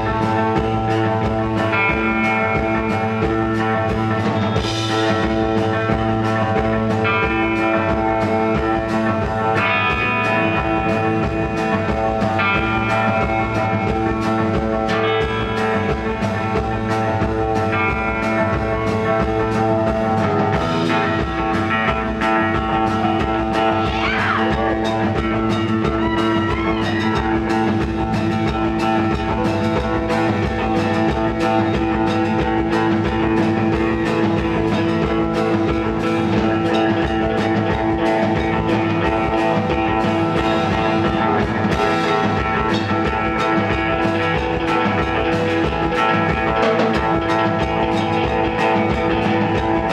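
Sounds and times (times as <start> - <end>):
electric guitars sustaining: 0.0 - 49.9
gliding guitar line: 0.0 - 49.9
steady drum beat: 0.0 - 49.9.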